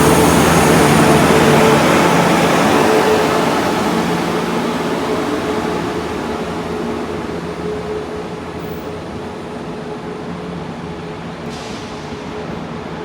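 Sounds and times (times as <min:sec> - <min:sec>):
train rumbling with humming tone: 0:00.0 - 0:13.0.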